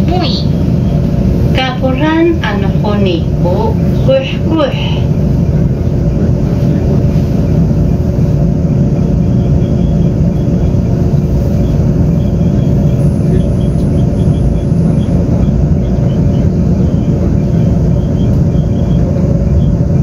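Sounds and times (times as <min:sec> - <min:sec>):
constant hum: 0:00.0 - 0:20.0
wheels rumbling on rail: 0:00.0 - 0:20.0.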